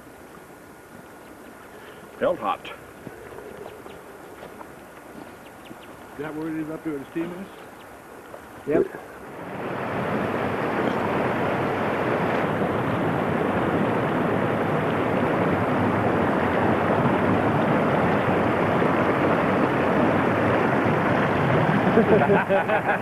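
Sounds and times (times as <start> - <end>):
shallow river rushing: 0.0 - 23.0.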